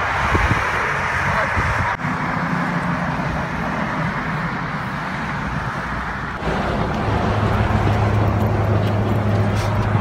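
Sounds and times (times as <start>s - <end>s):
cars rushing by: 0.0s - 10.0s
low traffic hum: 0.0s - 10.0s.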